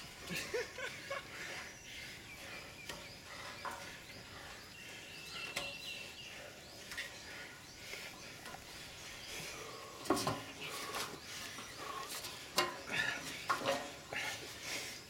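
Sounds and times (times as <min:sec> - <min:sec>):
scuffling on a steel frame: 0:01.4 - 0:15.0.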